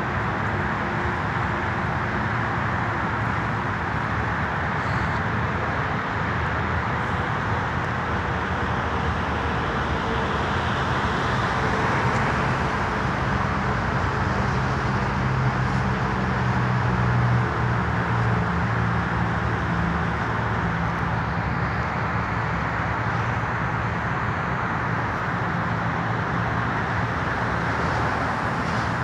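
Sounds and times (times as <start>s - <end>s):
car road noise: 0.0s - 29.0s.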